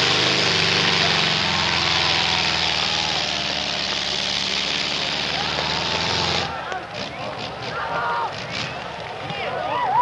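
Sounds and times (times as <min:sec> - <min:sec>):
tractor engine running hard: 0:00.0 - 0:09.2.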